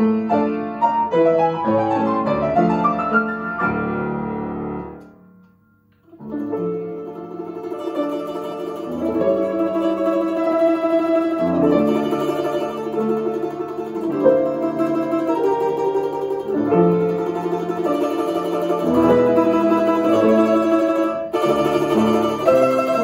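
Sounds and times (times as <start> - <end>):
domra melody: 0.0 - 23.0
piano accompaniment: 0.0 - 23.0.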